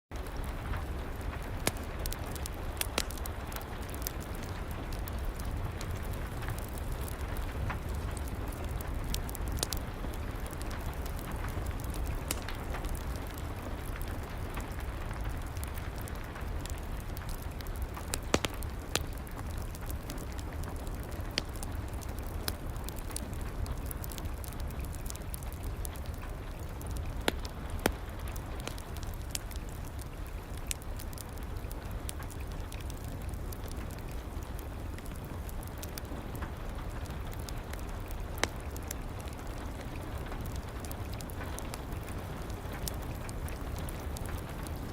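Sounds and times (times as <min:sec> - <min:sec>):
steady rain: 0:00.1 - 0:44.9
wood fire crackling and popping: 0:00.1 - 0:44.9.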